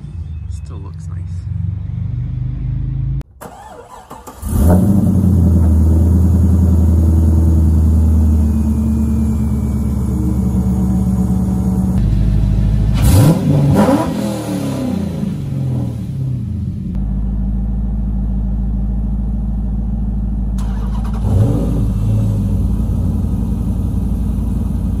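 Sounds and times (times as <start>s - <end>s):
car engine revving and idling: 0.0s - 3.6s, 4.3s - 25.0s.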